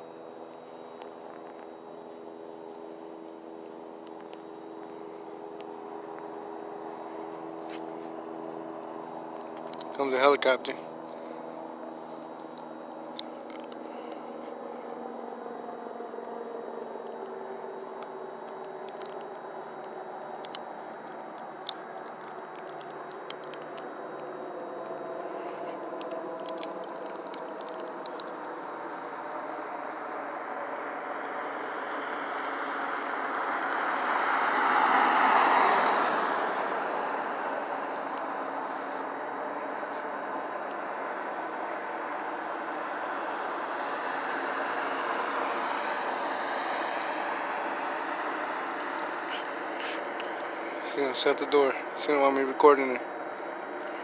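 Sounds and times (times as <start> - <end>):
helicopter drone overhead: 0.0 - 54.0.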